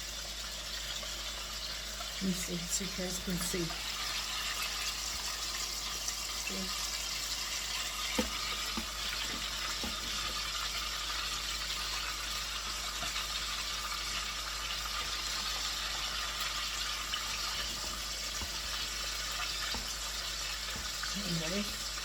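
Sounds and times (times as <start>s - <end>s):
chicken frying in hot oil: 0.0s - 22.0s.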